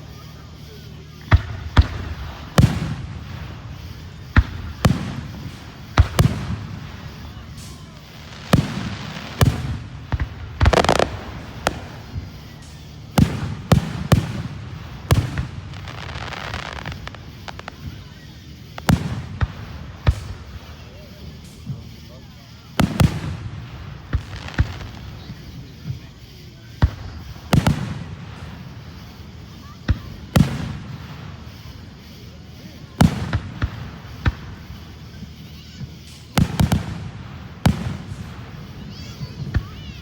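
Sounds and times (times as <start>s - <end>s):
fireworks bangs: 0.0s - 40.0s
fireworks crackling: 0.0s - 40.0s.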